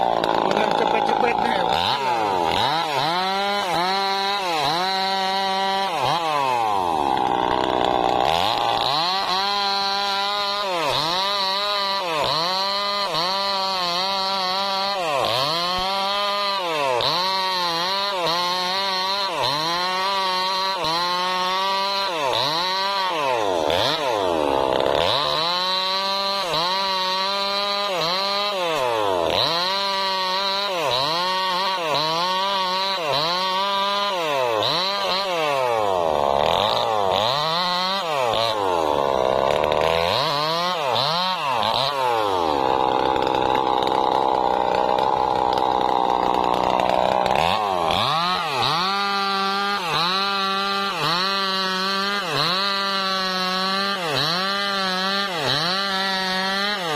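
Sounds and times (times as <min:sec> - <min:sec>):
chainsaw cutting log: 0:00.0 - 0:56.9.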